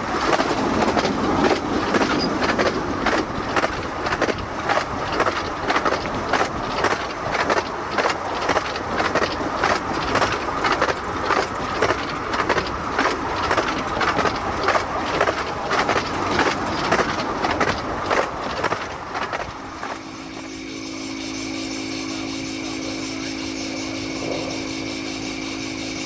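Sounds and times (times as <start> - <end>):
train wheels clattering on track: 0.0 - 26.0.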